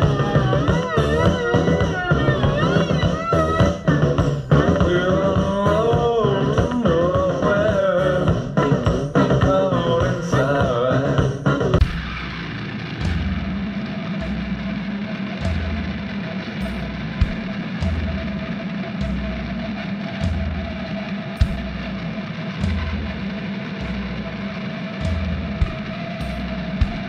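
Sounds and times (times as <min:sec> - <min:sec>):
deep pulsing bass note: 0:00.0 - 0:27.0
steady droning tone: 0:00.0 - 0:27.0.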